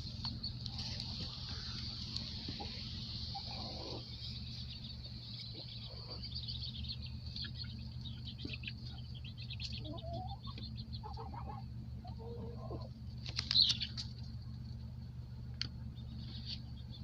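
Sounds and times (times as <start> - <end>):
chicken calls: 0.0 - 14.3
baby chicks peeping: 0.0 - 14.8, 15.7 - 17.0
steady low hum: 0.0 - 17.0.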